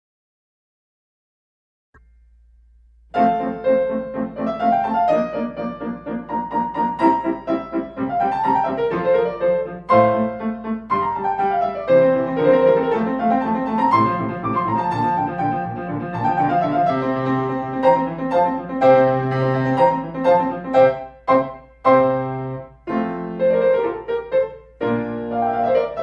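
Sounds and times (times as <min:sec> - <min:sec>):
piano music: 0:02.0 - 0:26.0.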